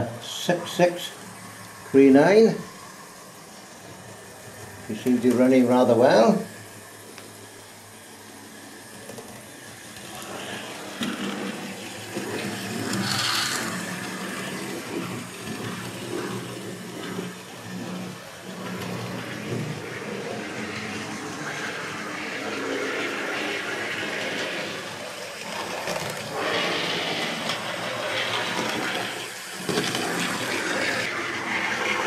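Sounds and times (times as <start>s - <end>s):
model train motor hum: 0.0s - 32.0s.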